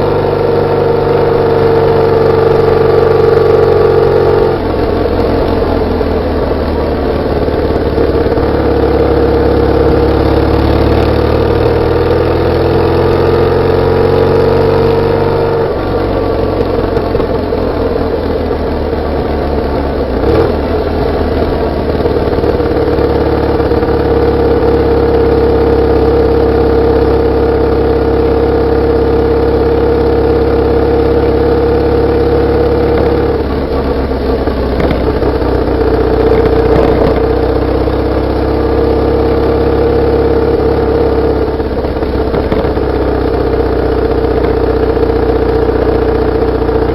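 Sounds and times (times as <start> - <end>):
motorcycle engine and exhaust: 0.0 - 46.9.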